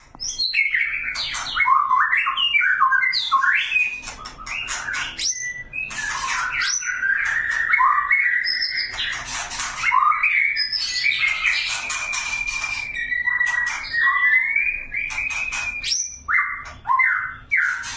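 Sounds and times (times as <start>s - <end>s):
bird singing whistles and chatter: 0.2s - 17.9s.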